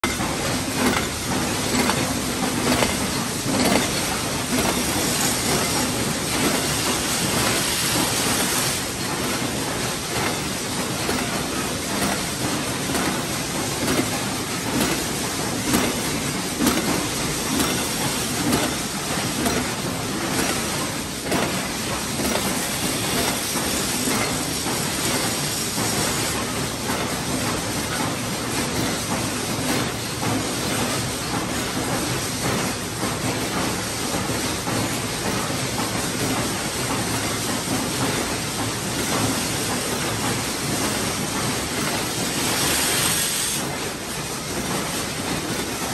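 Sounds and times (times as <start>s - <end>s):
machine rapid metal clatter: 0.0s - 45.9s.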